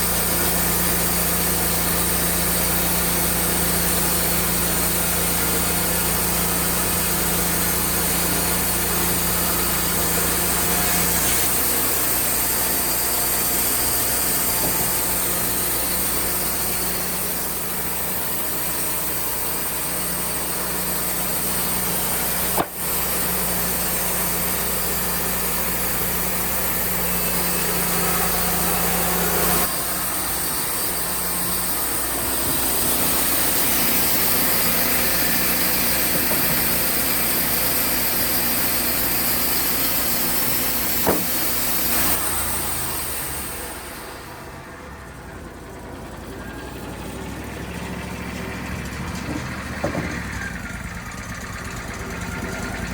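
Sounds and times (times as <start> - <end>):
band sawmill sawing log: 0.0 - 52.9.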